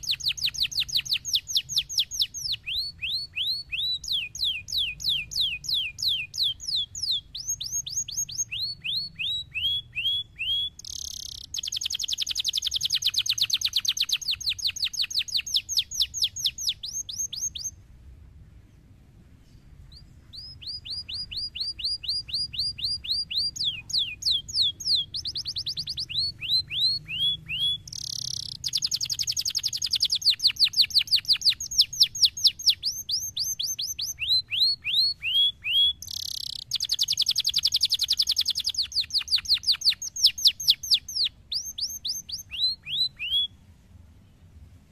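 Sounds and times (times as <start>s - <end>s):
canary singing trills: 0.0s - 17.8s, 19.4s - 43.7s.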